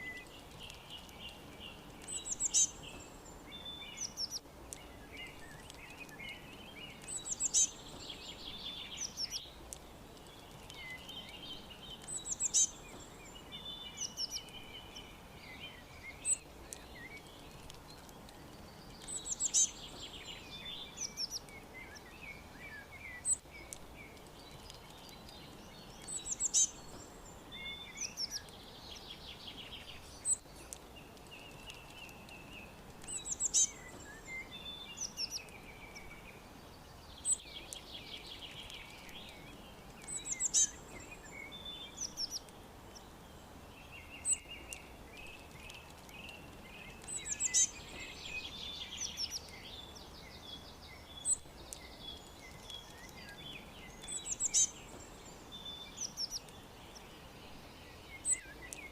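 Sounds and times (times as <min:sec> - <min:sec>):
birds chirping and singing: 0:00.0 - 0:58.9
steady background hiss: 0:00.0 - 0:58.9.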